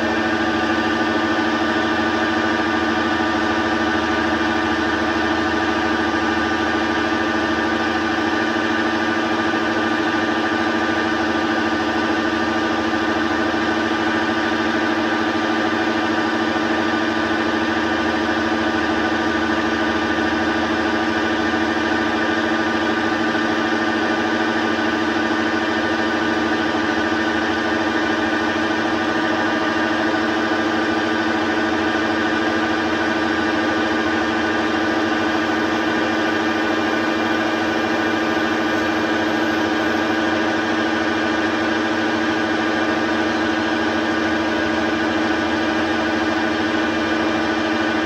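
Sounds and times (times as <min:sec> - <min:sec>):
metal lathe humming and whining: 0:00.0 - 0:48.0.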